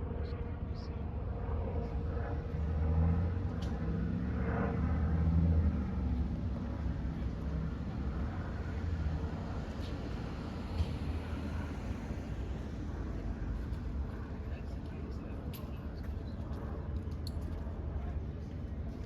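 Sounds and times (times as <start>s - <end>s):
car engine and tyre rumble: 0.1s - 19.0s.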